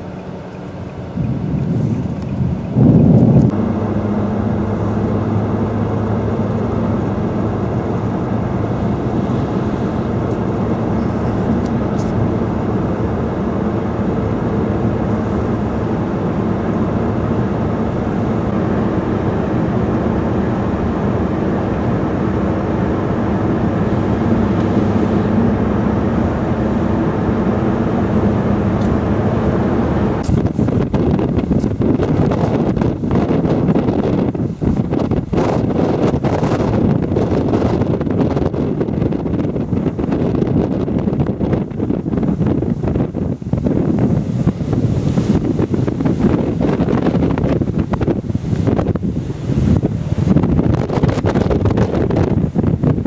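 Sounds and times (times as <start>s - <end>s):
car engine and road hum: 0.0s - 53.0s.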